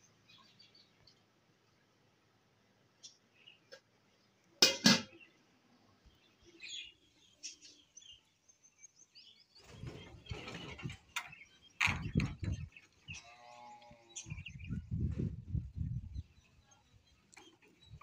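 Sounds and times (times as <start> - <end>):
small birds chirping: 0.0 - 1.8, 2.8 - 18.0.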